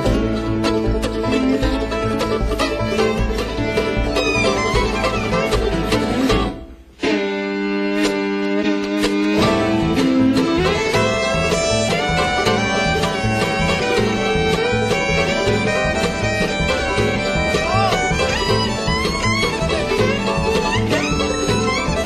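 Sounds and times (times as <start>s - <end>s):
plucked bass beat: 0.0s - 7.0s, 8.8s - 22.0s
bluegrass string band playing: 0.0s - 22.0s.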